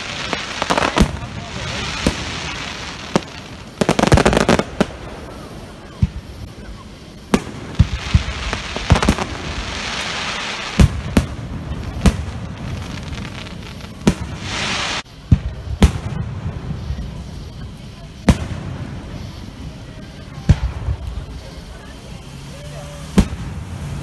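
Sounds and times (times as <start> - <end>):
rapid crackling pops: 0.0 - 22.3
crackling hiss of burning stars: 0.0 - 24.0
fireworks bangs: 0.0 - 24.0.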